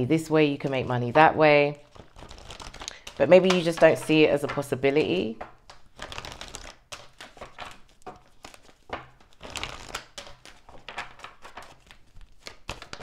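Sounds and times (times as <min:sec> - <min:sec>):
cards being shuffled: 0:01.8 - 0:13.0.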